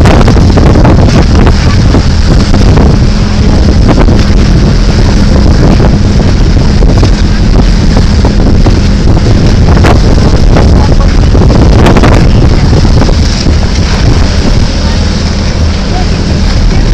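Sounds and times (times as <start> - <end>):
boat engine running: 0.0 - 16.9
wind buffeting microphone: 0.0 - 16.9.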